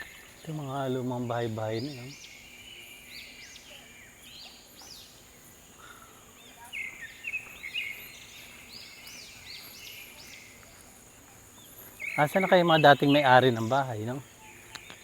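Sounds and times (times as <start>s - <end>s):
birds chirping: 0.0s - 15.0s
high-pitched insect drone: 0.0s - 15.0s.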